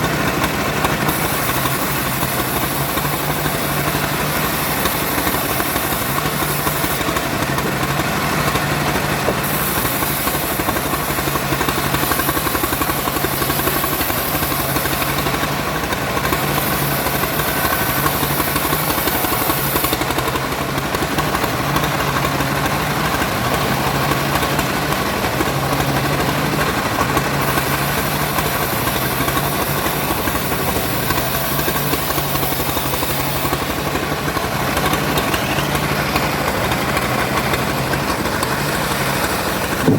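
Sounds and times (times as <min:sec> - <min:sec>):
saw engine running: 0:00.0 - 0:39.9.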